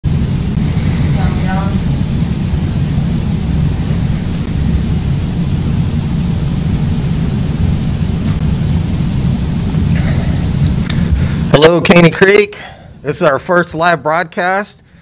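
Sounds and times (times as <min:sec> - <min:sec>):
loud low rumbling: 0:00.0 - 0:12.2.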